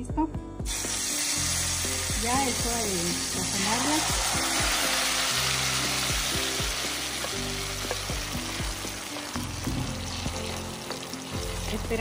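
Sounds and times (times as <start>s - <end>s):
salsa sizzling in hot oil: 0.7s - 12.0s.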